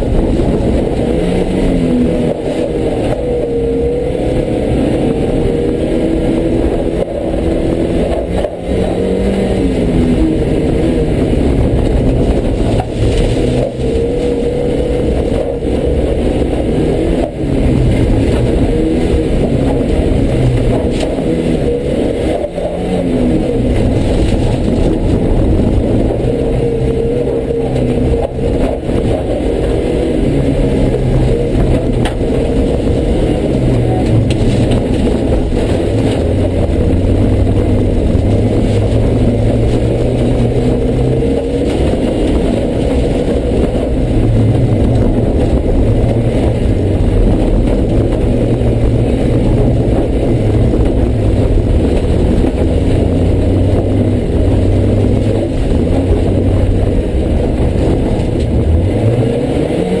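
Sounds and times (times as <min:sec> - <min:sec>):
rally car engine revving: 0:00.0 - 1:00.0
rough noisy wash: 0:00.0 - 1:00.0.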